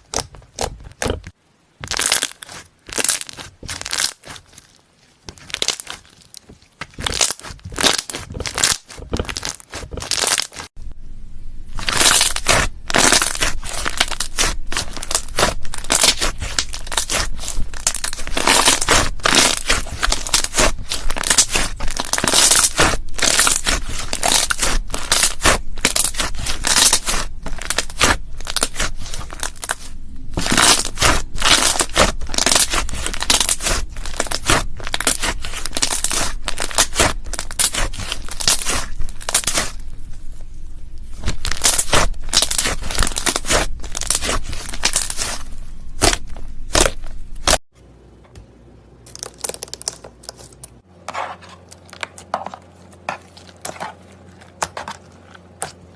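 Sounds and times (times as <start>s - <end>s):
slime crackling and crunching: 0.0s - 10.8s, 11.7s - 47.6s, 49.0s - 50.8s.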